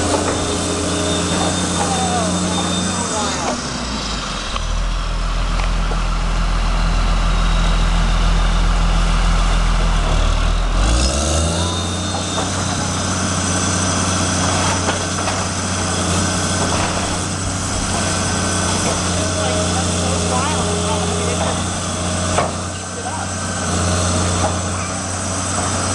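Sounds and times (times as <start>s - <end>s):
heavy diesel engine drone: 0.0s - 25.9s.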